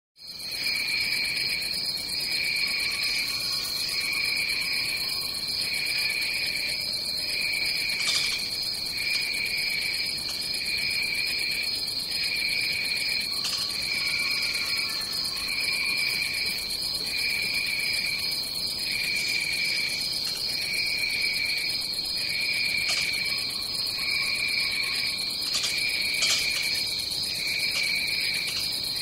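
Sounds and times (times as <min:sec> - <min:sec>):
lower pulsing insect call: 0:00.2 - 0:29.0
high shrill insect drone: 0:00.4 - 0:29.0.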